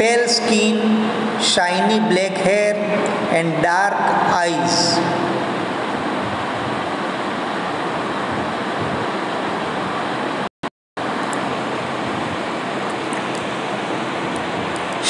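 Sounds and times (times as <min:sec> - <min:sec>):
rushing hiss of background noise: 0:00.0 - 0:15.0.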